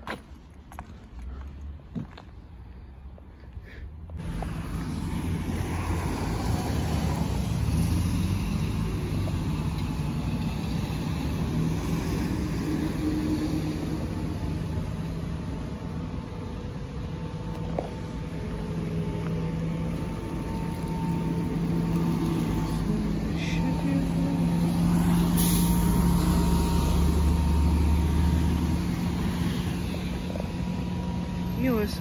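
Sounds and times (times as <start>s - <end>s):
faint vehicle whine: 0.0s - 32.0s
street traffic hum: 0.0s - 32.0s.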